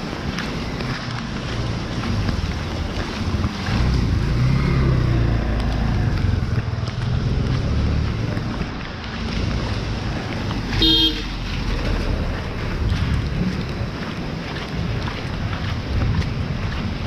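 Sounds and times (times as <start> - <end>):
steady rain: 0.0 - 17.0
vehicle passing on wet road: 0.0 - 17.0.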